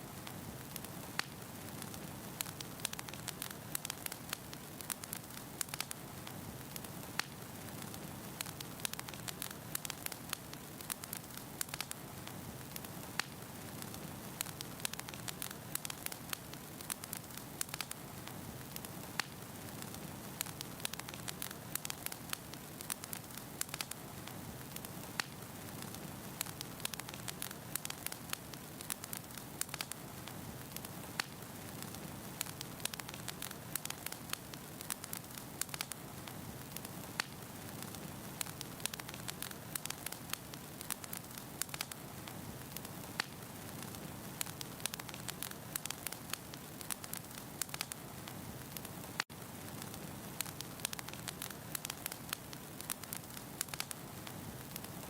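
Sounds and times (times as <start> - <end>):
firewood crackling and popping: 0.0 - 55.0
soft fire hiss: 0.0 - 55.0.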